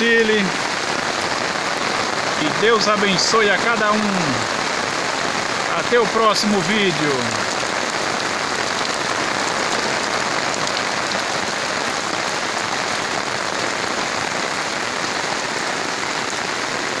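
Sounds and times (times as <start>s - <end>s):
rain falling on leaves: 0.0s - 17.0s.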